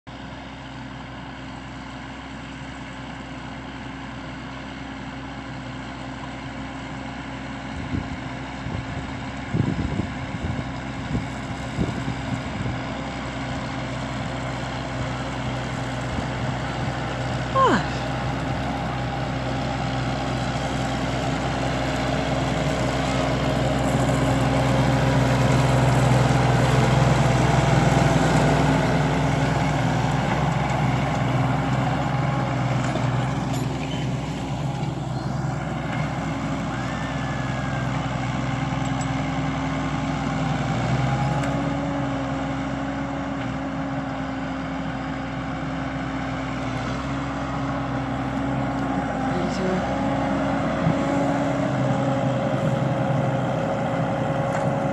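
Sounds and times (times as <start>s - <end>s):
tractor diesel engine under load: 0.1s - 54.9s.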